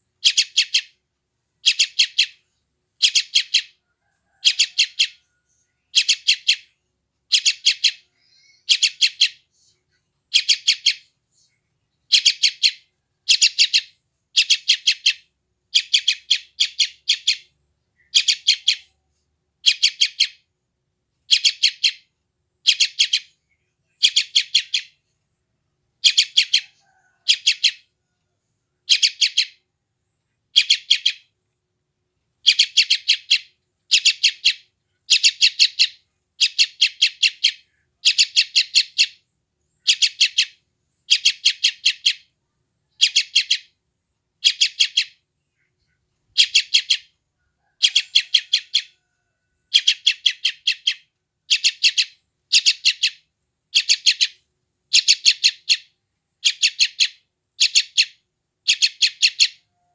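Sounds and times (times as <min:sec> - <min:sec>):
bird rapid sharp chirps: 0:00.2 - 0:01.0, 0:01.6 - 0:02.4, 0:03.0 - 0:09.5, 0:10.3 - 0:11.2, 0:12.0 - 0:19.0, 0:19.6 - 0:20.4, 0:21.2 - 0:25.0, 0:26.0 - 0:27.9, 0:28.9 - 0:29.6, 0:30.5 - 0:31.3, 0:32.4 - 0:42.3, 0:42.9 - 0:43.8, 0:44.4 - 0:47.1, 0:47.7 - 0:49.1, 0:49.7 - 0:59.7.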